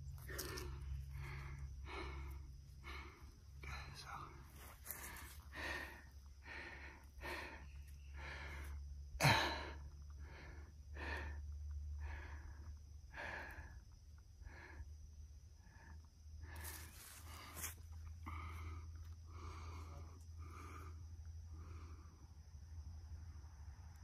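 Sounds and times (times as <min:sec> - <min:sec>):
man breathing hard: 0:00.2 - 0:22.4.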